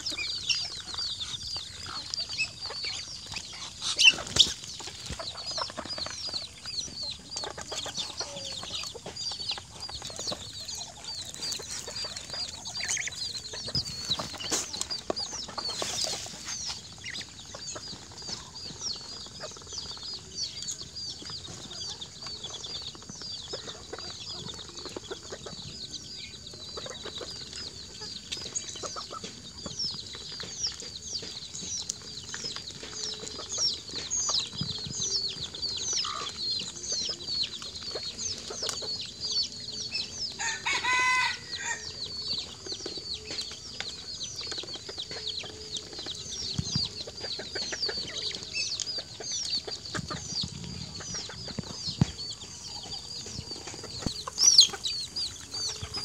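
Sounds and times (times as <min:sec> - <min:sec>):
chickens and ducks calling: 0:00.0 - 0:56.0
high-pitched chirping and peeping: 0:00.0 - 0:56.0.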